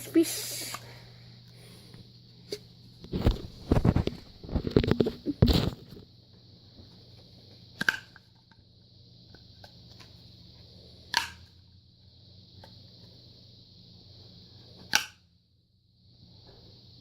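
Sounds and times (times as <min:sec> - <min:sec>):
faint steady hiss: 0:00.0 - 0:15.1.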